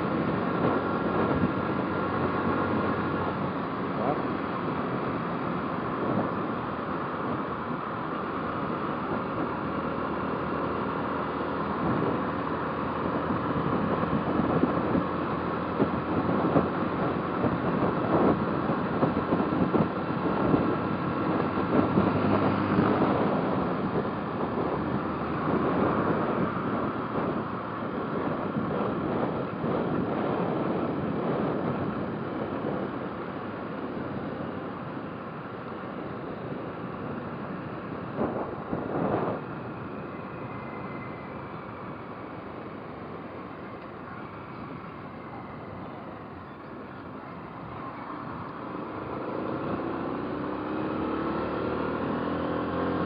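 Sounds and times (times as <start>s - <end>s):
wind buffeting microphone: 0.0s - 52.8s
motorcycle engine: 0.0s - 53.0s
road noise: 0.0s - 53.0s.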